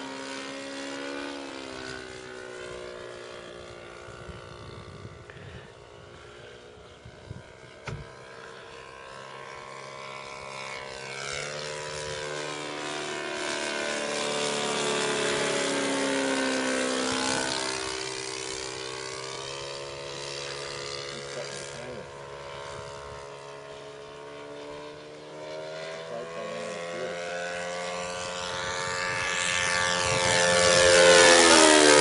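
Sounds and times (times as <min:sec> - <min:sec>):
model plane engine flying past: 0:00.0 - 0:32.0.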